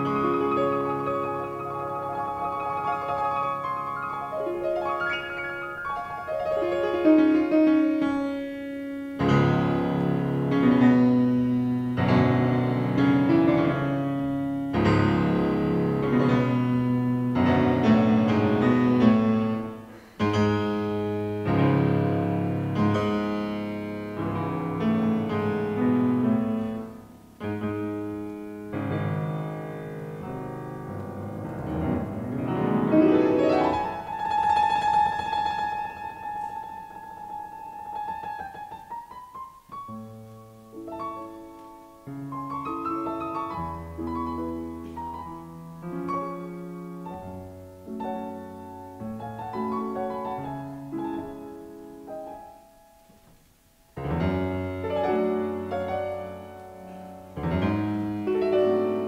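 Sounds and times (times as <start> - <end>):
solo piano: 0.0 - 59.0.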